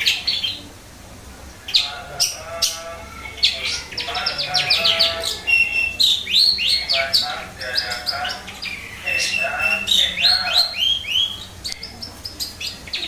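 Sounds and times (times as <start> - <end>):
shrike singing chattering song: 0.0 - 0.9, 1.5 - 13.0.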